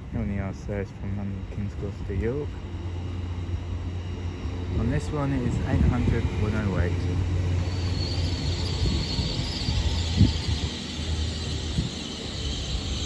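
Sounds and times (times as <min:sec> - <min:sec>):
train humming: 0:00.0 - 0:13.0.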